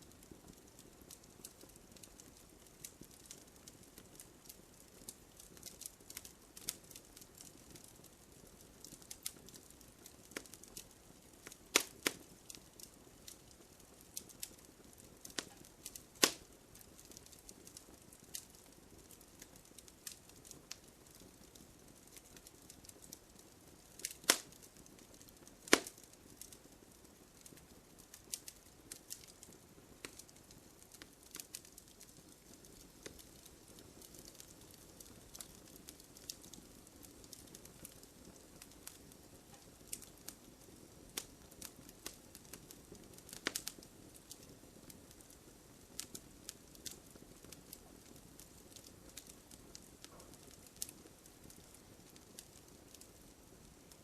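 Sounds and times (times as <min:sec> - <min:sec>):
campfire crackling: 0:00.0 - 0:54.0
faint hiss: 0:00.0 - 0:54.0
sharp loud cracks of fire: 0:04.8 - 0:07.9, 0:08.8 - 0:23.1, 0:23.9 - 0:45.3, 0:46.0 - 0:53.7.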